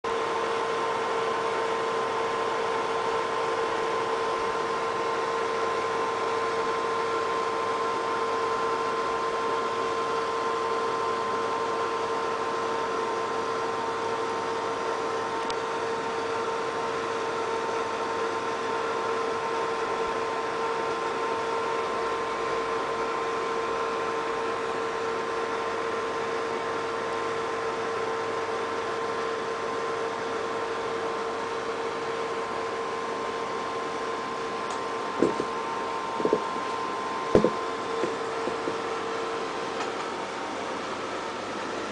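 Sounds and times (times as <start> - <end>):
computer cooling fans whirring: 0.0 - 41.9.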